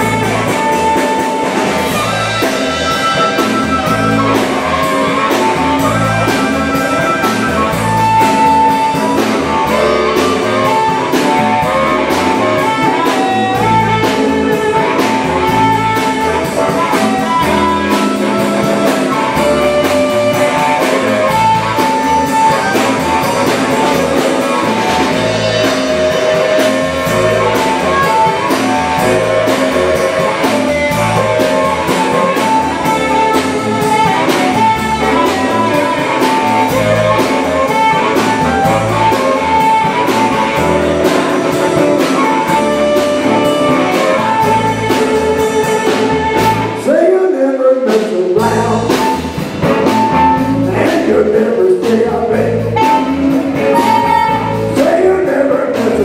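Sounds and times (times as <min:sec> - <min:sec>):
harmonica: 0:00.0 - 0:46.8, 0:52.5 - 0:55.7
electric blues band playing: 0:00.0 - 0:56.0.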